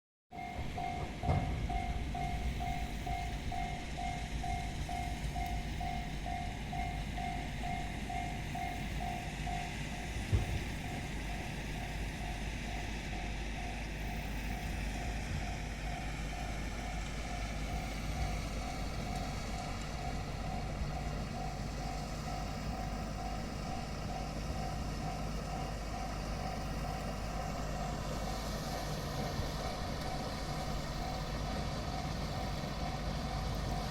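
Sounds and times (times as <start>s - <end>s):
train running: 0.3s - 33.9s.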